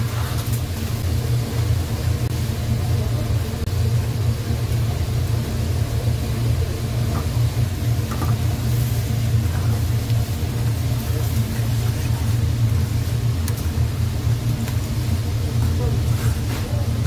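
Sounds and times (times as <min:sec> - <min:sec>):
gas burner rumbling: 0:00.0 - 0:17.0.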